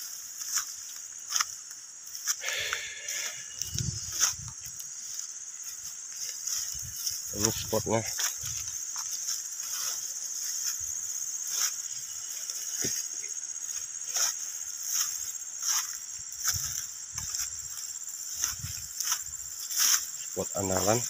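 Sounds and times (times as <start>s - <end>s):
footsteps through leafy plants: 0.0s - 21.0s
insects droning: 0.0s - 21.0s.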